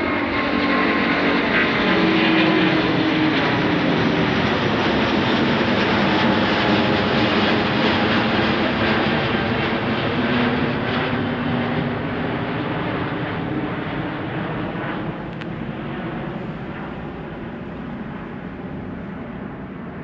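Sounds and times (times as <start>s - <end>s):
jet airliner engine climbing: 0.0s - 20.0s.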